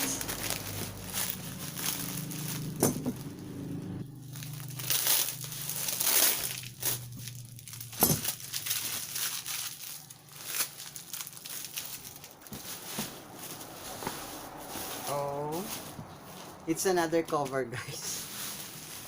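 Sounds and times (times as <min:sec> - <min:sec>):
packaging crinkling and tearing: 0:00.0 - 0:03.5, 0:04.1 - 0:16.0
low steady hum: 0:00.0 - 0:19.0.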